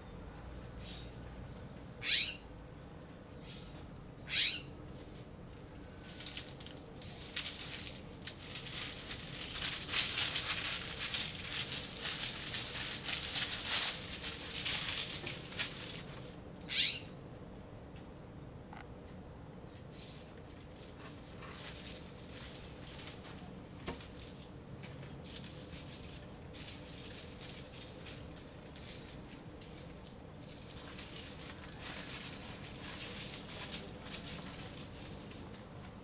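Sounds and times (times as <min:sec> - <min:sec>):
rustling through dry leaves: 0:00.0 - 0:17.2, 0:19.9 - 0:36.0.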